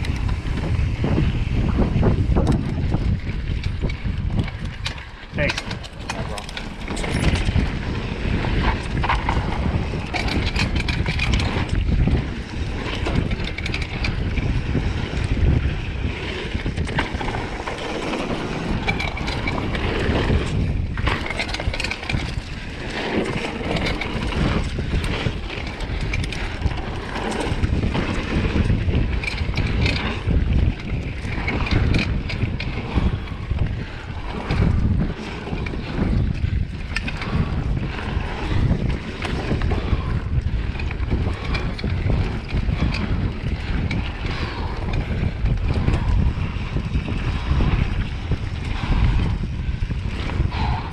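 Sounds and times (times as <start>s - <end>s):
tyres on dirt: 0.0s - 47.8s
bike clattering over bumps: 0.0s - 50.9s
wind buffeting microphone: 0.0s - 50.9s.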